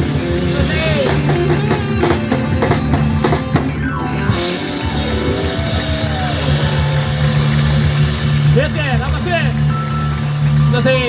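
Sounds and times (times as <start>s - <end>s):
drum kit: 0.0s - 11.0s
electric guitar: 0.0s - 11.0s.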